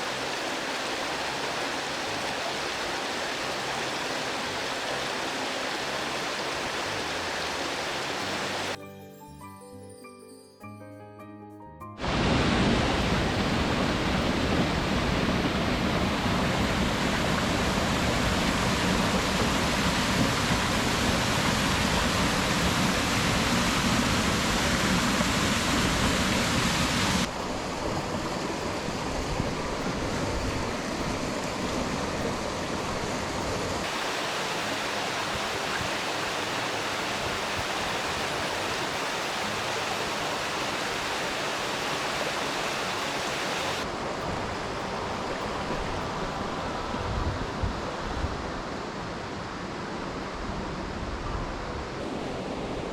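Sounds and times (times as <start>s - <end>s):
waterfall and stream rushing: 0.0s - 8.8s, 12.0s - 52.9s.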